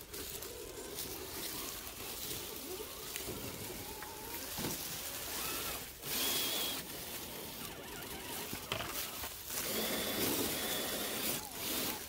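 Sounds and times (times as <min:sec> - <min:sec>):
electric motor whining: 0:00.0 - 0:12.0
toy truck moving on trail: 0:00.0 - 0:12.0.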